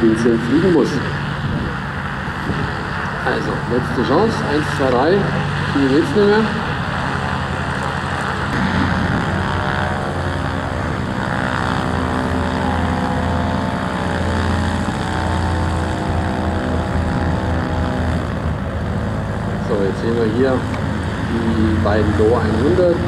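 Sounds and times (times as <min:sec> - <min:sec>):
propeller plane engine running: 0:00.0 - 0:23.0.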